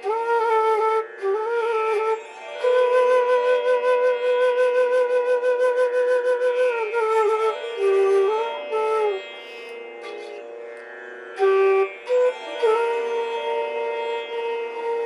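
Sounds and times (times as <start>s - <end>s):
flute playing: 0.0s - 10.7s, 11.3s - 15.0s.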